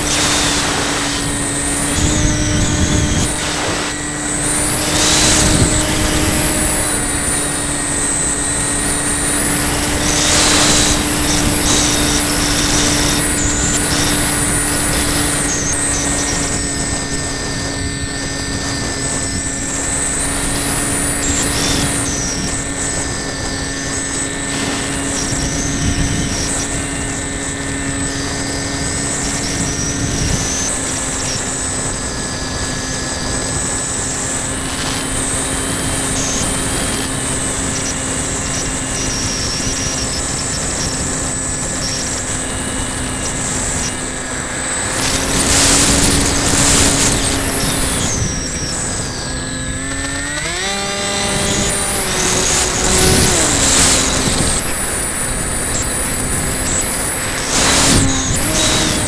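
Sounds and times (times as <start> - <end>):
electric motor and propeller: 0.0 - 59.0.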